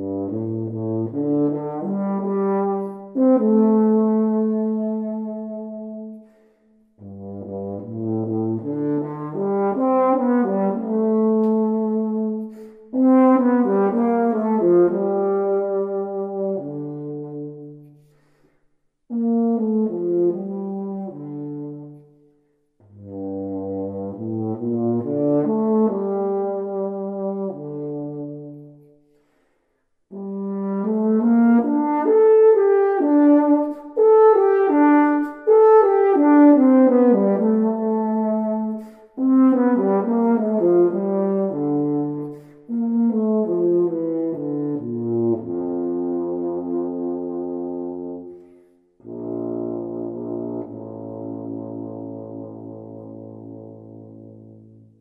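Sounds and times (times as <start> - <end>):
solo euphonium melody: 0.0 - 18.1, 19.0 - 29.1, 30.1 - 55.0.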